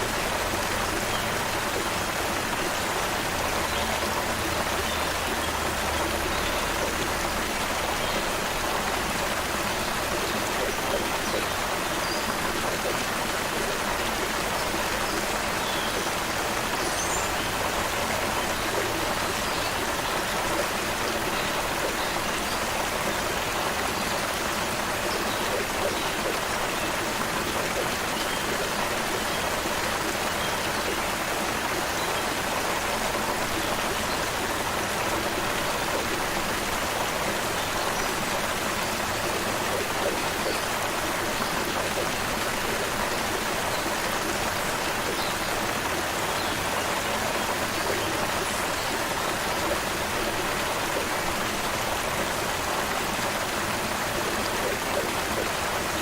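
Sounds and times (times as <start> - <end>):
creek water flowing over stones: 0.0 - 56.0.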